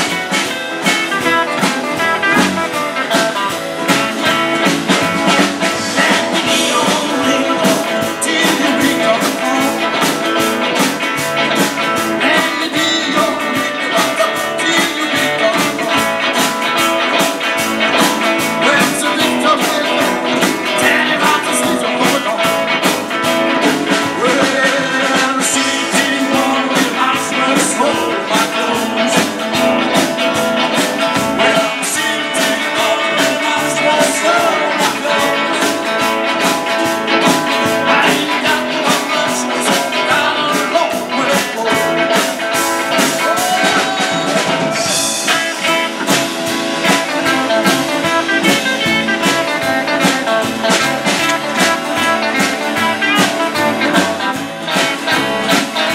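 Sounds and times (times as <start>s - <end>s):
live band playing: 0.0s - 55.9s
steady drum beat: 0.0s - 55.9s.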